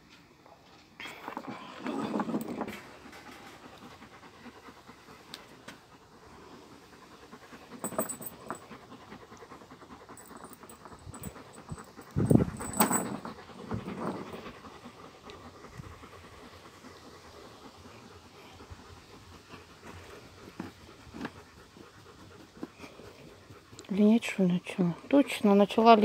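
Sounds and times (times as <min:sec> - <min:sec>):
dog panting: 0:00.5 - 0:26.0.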